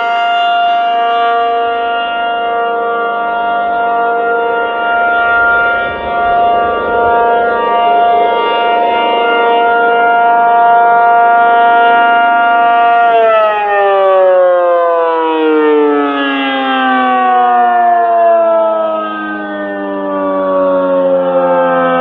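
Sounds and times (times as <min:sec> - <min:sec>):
two-tone siren winding down: 0:00.0 - 0:22.0.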